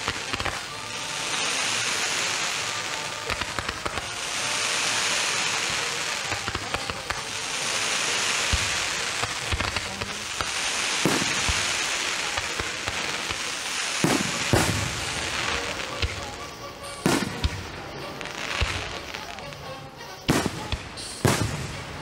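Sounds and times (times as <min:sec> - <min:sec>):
fireworks crackling hiss: 0:00.0 - 0:22.0
fireworks sharp bangs: 0:00.0 - 0:22.0.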